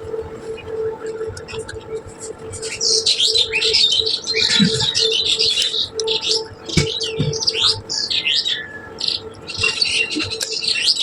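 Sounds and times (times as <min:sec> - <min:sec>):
small birds chirping: 0:01.3 - 0:11.0.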